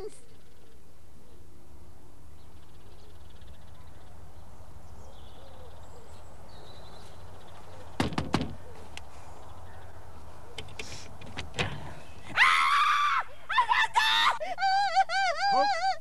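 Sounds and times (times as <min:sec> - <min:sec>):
faint birdsong: 0:00.0 - 0:14.5.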